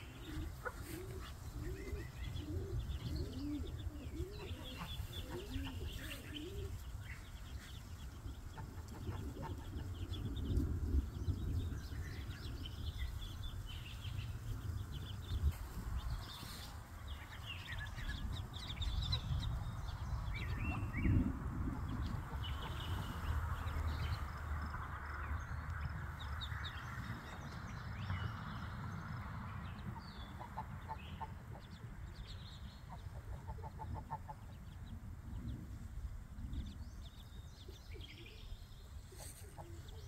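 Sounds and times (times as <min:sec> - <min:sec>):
ducklings peeping: 0:00.0 - 0:24.9, 0:29.7 - 0:35.4, 0:37.0 - 0:40.0
steady low rumble: 0:00.0 - 0:39.1.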